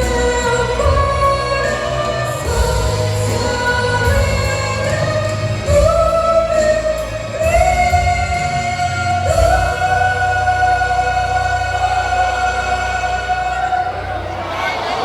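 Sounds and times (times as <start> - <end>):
instrumental accompaniment: 0.0 - 14.6
vocal group singing gospel: 0.0 - 15.0.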